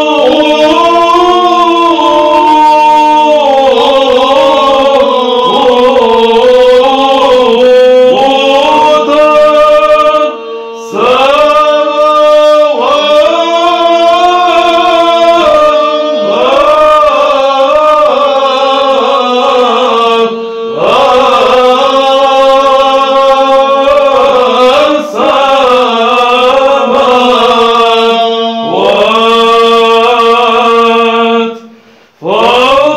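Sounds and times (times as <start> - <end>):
held vocal drone: 0.0 - 32.9
male choir chanting: 0.0 - 32.9.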